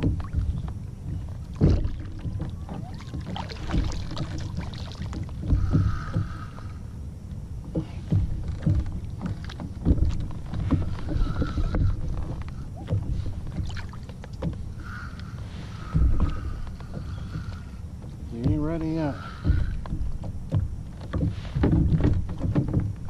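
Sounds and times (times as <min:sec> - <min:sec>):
water slapping against boat hull: 0:00.0 - 0:23.0.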